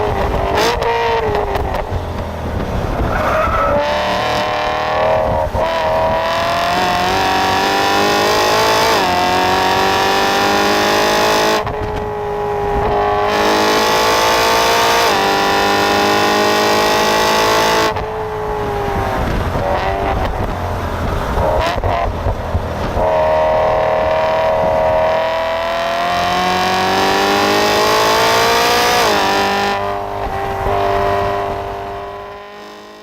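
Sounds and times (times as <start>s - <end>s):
engine revving at full throttle: 0.0s - 1.9s, 3.7s - 33.0s.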